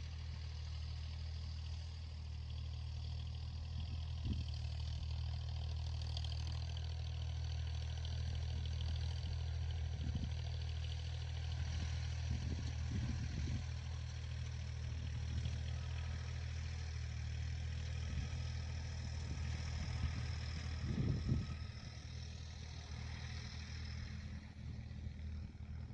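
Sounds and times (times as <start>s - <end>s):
tractor engine running: 0.0s - 25.9s.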